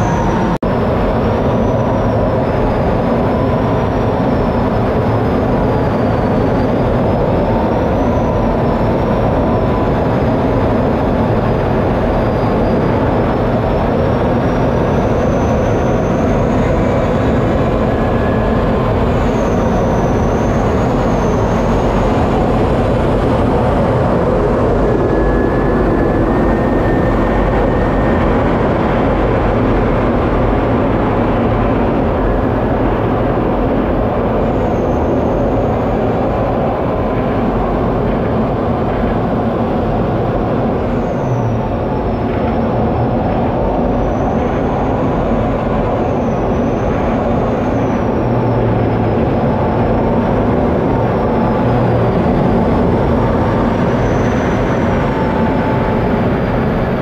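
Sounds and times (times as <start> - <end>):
jet engine and airflow rush: 0.0 - 57.0.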